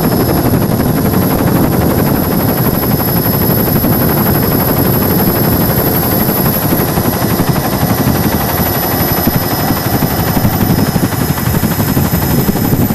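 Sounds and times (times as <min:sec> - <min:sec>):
helicopter engine noise: 0:00.0 - 0:12.9
helicopter rotor chop: 0:00.0 - 0:12.9.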